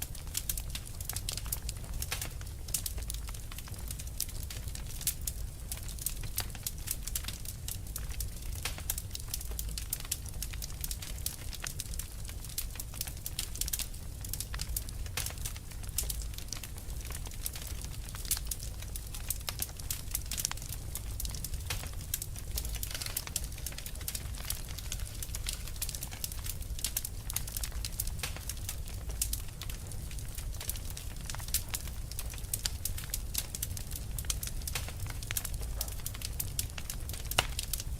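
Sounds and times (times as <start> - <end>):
fire crackling: 0.0 - 37.9.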